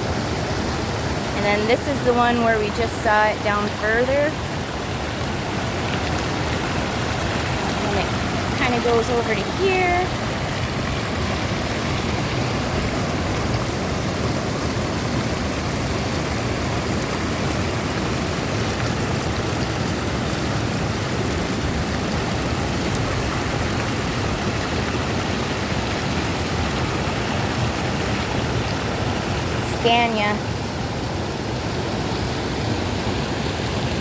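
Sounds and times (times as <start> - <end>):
waterfall rushing water: 0.0 - 34.0.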